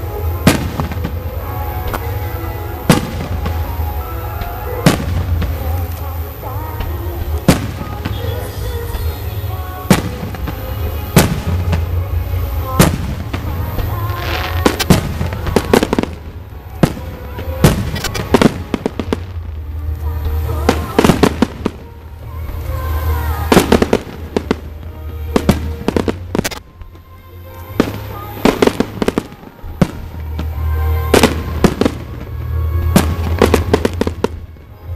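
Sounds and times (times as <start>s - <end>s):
firework bangs: 0.0s - 34.9s
firework shells launching: 0.0s - 34.9s.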